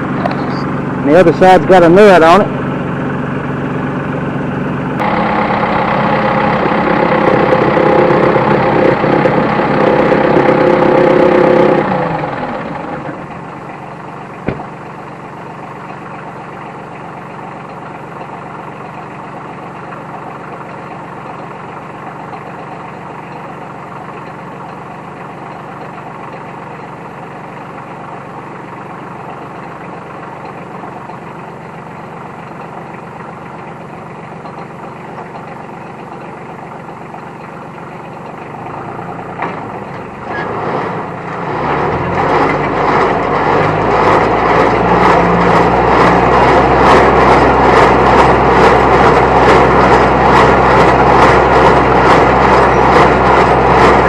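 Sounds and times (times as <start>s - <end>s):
tractor engine revving and idling: 0.0s - 54.0s.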